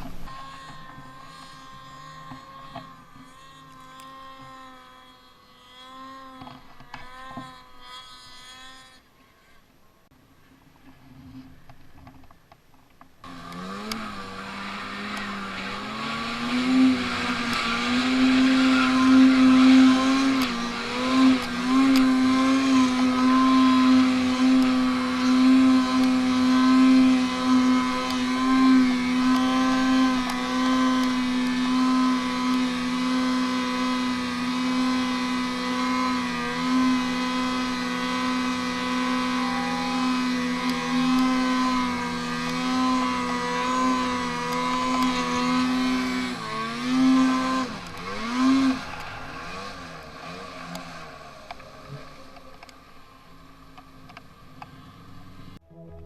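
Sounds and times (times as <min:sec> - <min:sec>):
snowmobile engine running hard: 0:00.0 - 0:06.7, 0:13.2 - 0:55.6.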